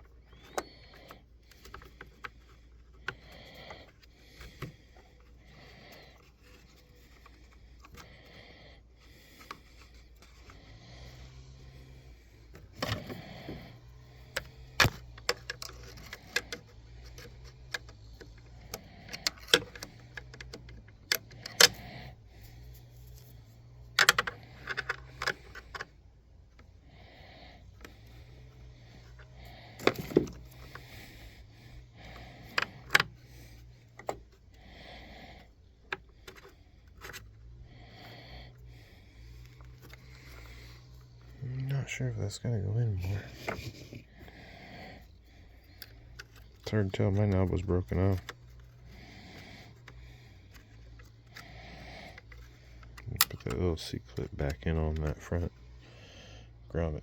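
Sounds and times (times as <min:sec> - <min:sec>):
small parts clicking and scraping: 0:00.0 - 0:56.0
low steady hum: 0:00.0 - 0:57.0.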